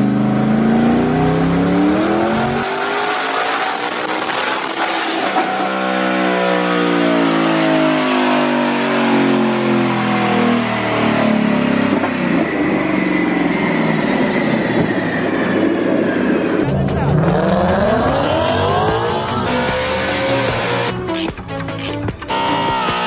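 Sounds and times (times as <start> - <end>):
car engine running hard: 0.0 - 21.4.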